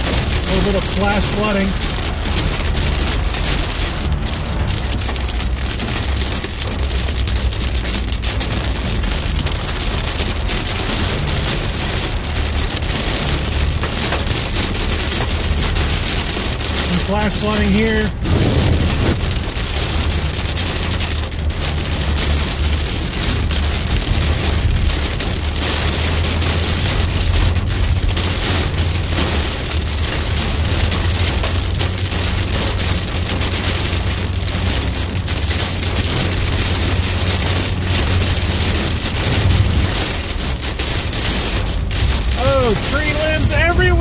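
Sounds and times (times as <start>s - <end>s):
low rumble: 0.0s - 13.8s, 14.4s - 32.4s, 36.0s - 44.0s
heavy rain on car roof: 0.0s - 44.0s.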